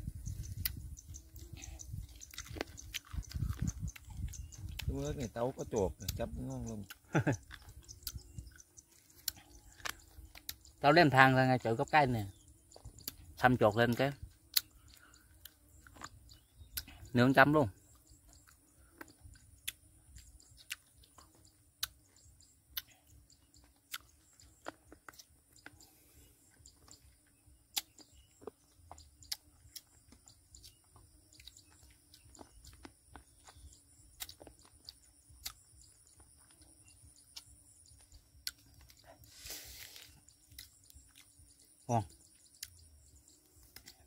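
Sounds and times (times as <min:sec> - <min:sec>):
person chewing crunchy fruit: 0:00.0 - 0:11.3, 0:12.1 - 0:44.0.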